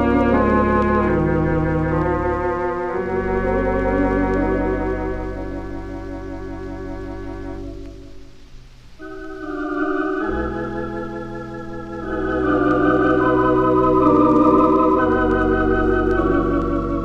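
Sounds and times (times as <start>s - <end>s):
organ chords with tremolo: 0.0s - 8.4s, 9.0s - 17.0s.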